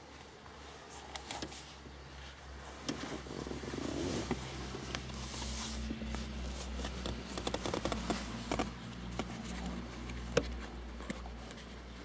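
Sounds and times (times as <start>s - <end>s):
leather rustling: 1.6s - 12.0s.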